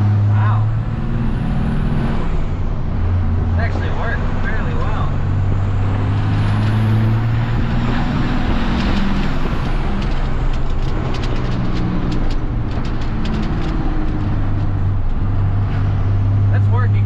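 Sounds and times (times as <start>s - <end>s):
diesel truck engine drone: 0.0s - 17.0s.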